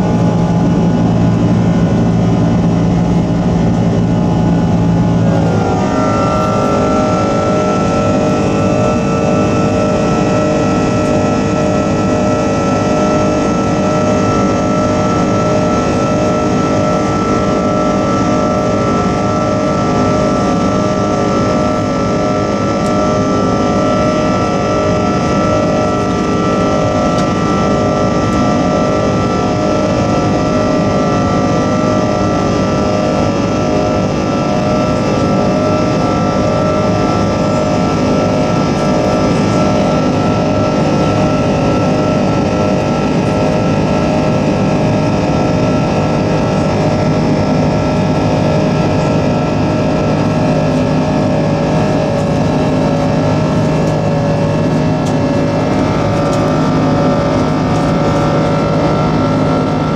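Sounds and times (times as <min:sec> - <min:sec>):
constant engine whine: 0:00.0 - 0:59.9
jet engine noise in cabin: 0:00.0 - 0:59.9.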